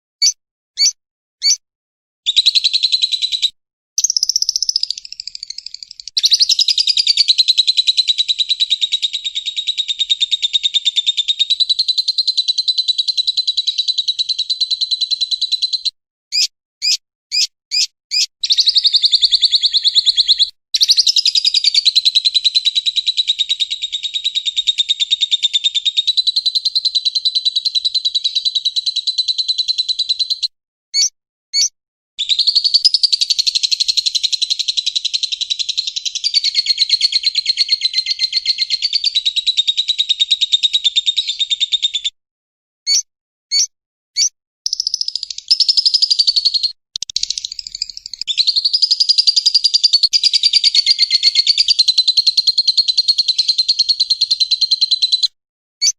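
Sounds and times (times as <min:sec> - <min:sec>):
bird chirps: 0:00.2 - 0:01.6, 0:02.3 - 0:42.2, 0:42.9 - 0:55.9.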